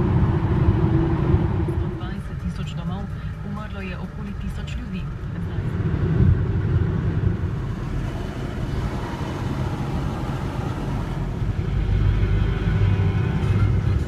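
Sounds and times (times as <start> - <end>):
car interior road rumble: 0.0 - 14.0.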